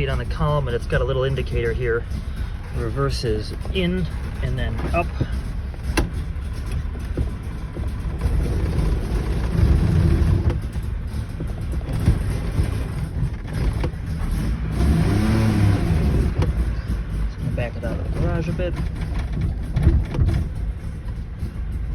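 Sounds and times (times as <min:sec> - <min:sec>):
two-stroke engine running: 0:00.0 - 0:21.9.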